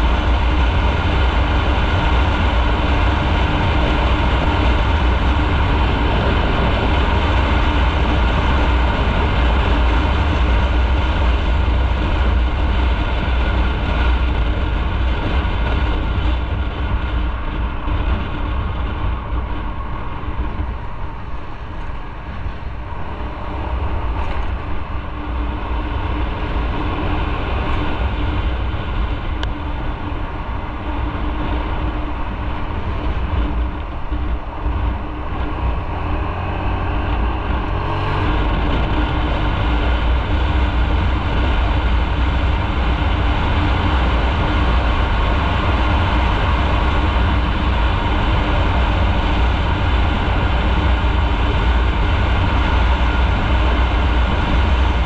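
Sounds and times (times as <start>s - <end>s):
motorcycle engine running: 0.0s - 55.0s
road rumble: 0.0s - 55.0s
wind on microphone: 0.0s - 55.0s.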